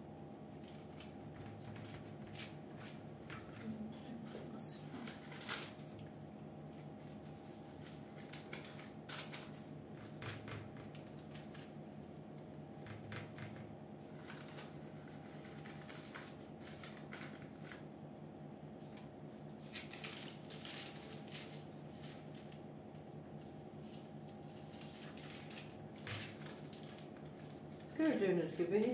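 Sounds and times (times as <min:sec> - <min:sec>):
baking paper rustling: 0:00.0 - 0:17.9, 0:18.7 - 0:28.9
steady low hum: 0:00.0 - 0:28.9.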